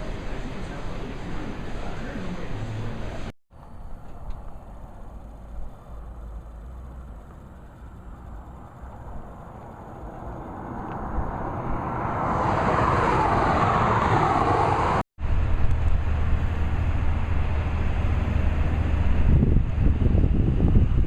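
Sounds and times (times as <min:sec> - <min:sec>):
steady low rumble: 0:00.0 - 0:21.0
vehicle noise: 0:00.0 - 0:21.0.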